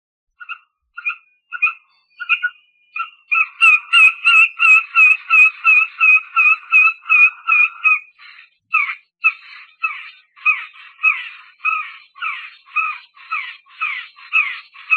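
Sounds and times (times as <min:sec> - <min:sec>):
stork calling: 0:00.4 - 0:14.9.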